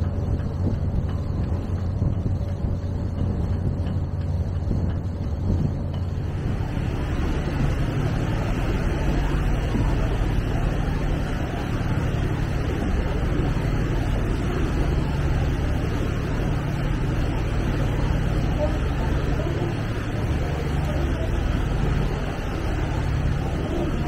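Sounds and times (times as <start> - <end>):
ship engine droning: 0.0 - 24.0
wind and water rushing: 0.0 - 24.0.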